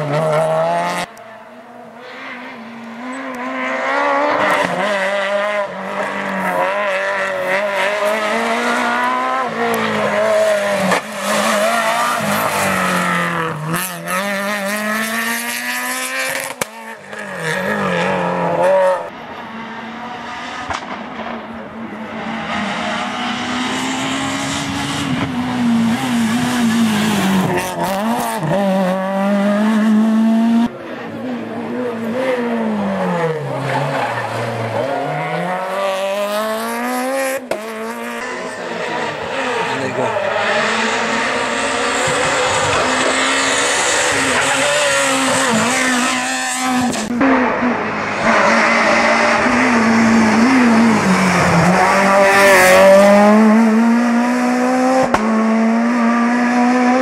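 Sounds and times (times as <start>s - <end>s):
rally car engine revving hard: 0.0s - 1.2s, 1.8s - 19.1s, 19.8s - 57.0s.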